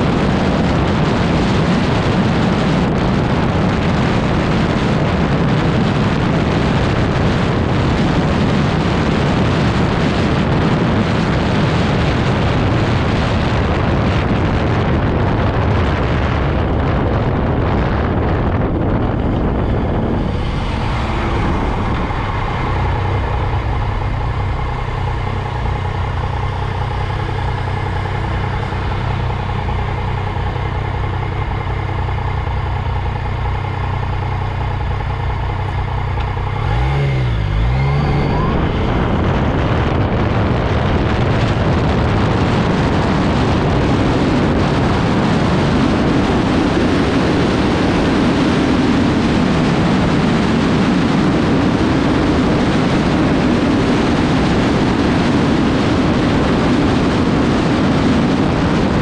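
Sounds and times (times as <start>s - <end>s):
motorcycle engine: 0.0s - 59.0s
wind and road noise: 0.0s - 59.0s.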